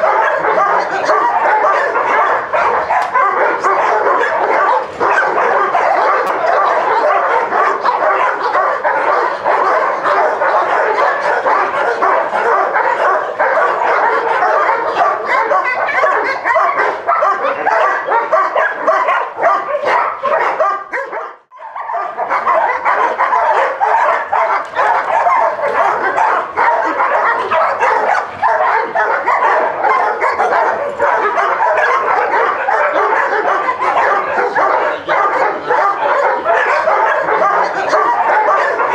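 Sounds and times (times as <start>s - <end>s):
dogs barking and yipping: 0.0s - 38.9s.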